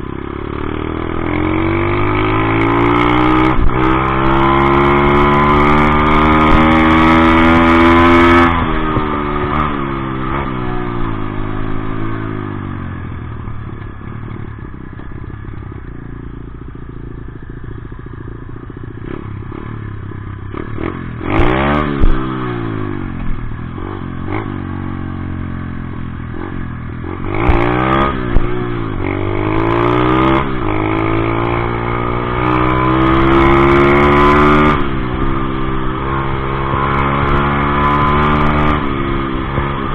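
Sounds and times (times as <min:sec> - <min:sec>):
dirt bike engine revving: 0:00.2 - 0:12.6, 0:17.8 - 0:25.5, 0:26.2 - 0:39.9.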